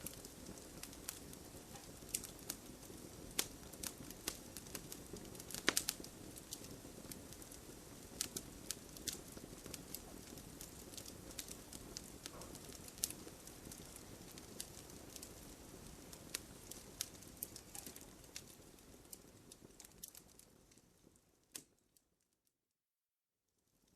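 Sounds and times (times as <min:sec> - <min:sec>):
flames hissing: 0:00.0 - 0:20.6
burning wood popping and snapping: 0:00.0 - 0:20.9.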